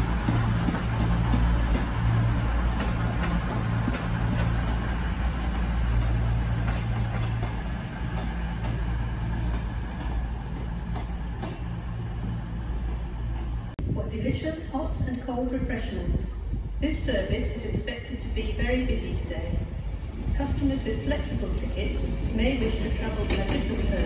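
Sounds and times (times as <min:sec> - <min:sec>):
diesel train engines droning: 0:00.0 - 0:14.4, 0:15.0 - 0:24.0.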